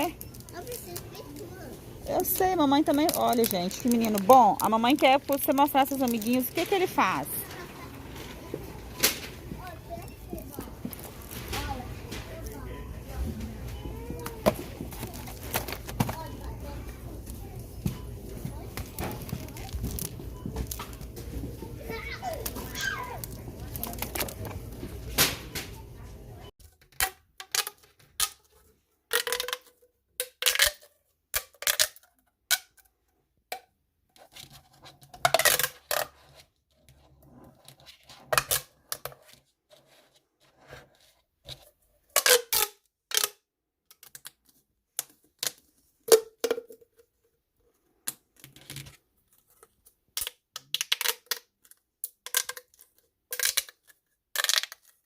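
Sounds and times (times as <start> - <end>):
plastic toys clicking and crackling: 0.0 - 25.6, 26.6 - 32.9, 33.5 - 39.5, 41.5 - 47.2, 48.0 - 55.0.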